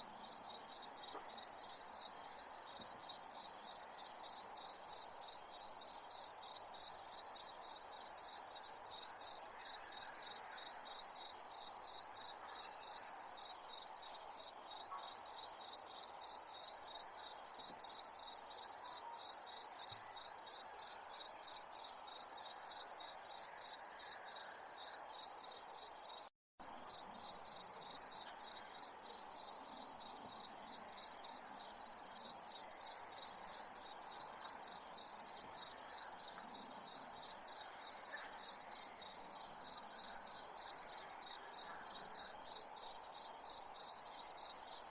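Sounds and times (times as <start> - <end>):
crickets chirping: 0.2 - 44.9.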